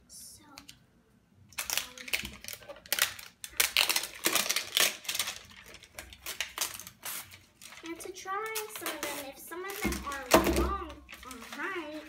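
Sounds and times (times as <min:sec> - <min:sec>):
plastic wrapping crinkling: 0:01.5 - 0:12.0.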